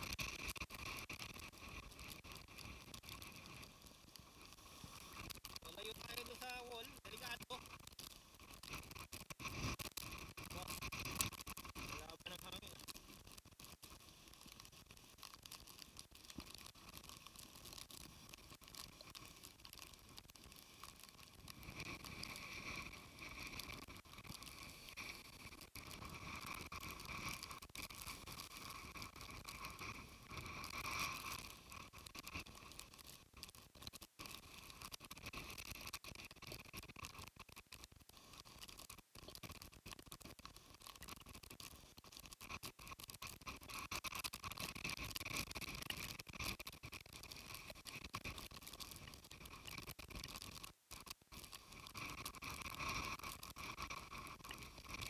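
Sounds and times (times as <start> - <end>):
rain and wind hitting camera: 0.0 - 55.0.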